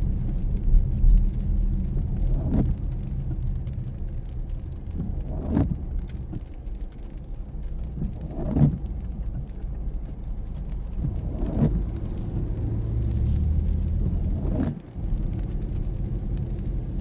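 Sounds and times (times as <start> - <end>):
rain ticking on glass: 0.0 - 17.0
tyres and engine rumble: 0.0 - 17.0
windscreen wipers sweeping: 0.0 - 17.0.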